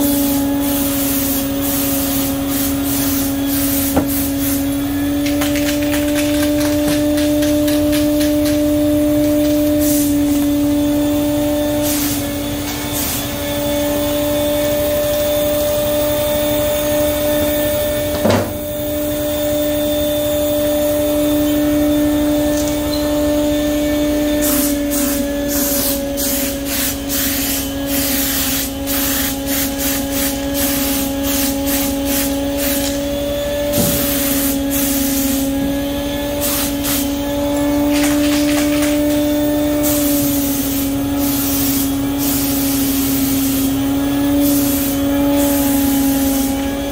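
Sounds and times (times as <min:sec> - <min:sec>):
spray gun hissing bursts: 0:00.0 - 0:46.9.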